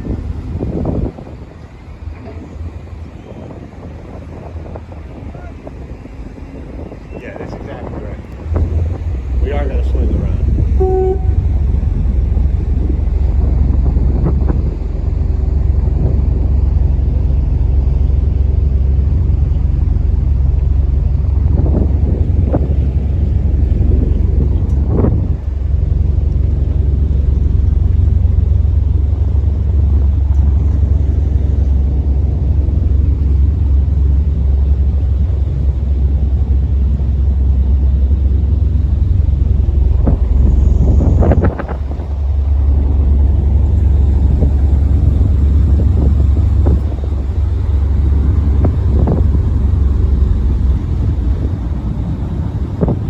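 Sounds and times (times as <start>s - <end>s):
boat engine deep rumble: 0.0s - 53.0s.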